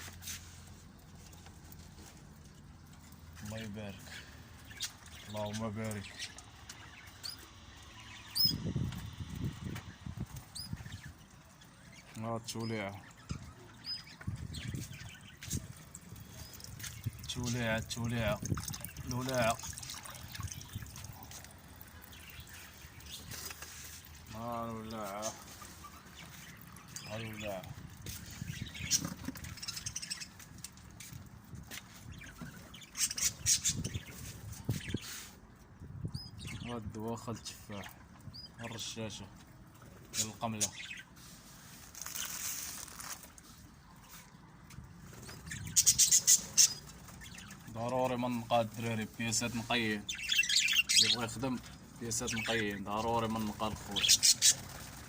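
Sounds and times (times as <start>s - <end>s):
cage birds chirping: 0.0s - 55.0s.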